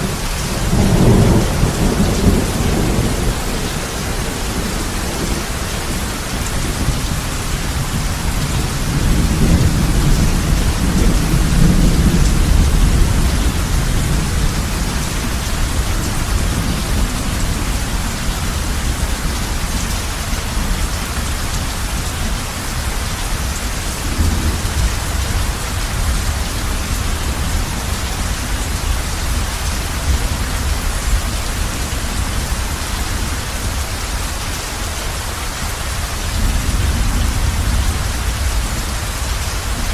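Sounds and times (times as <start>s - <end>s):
thunder rumble: 0.0s - 34.1s
heavy rain on a roof: 0.0s - 39.9s.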